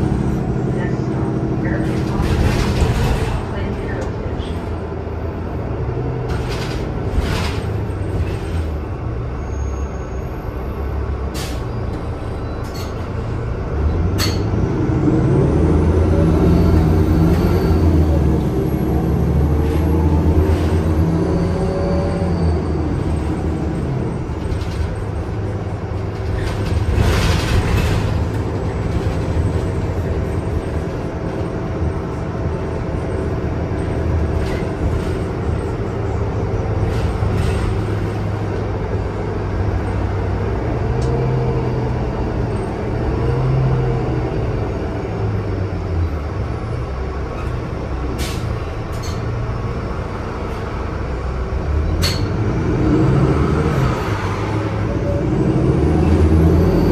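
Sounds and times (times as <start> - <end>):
bus engine running: 0.0 - 56.9.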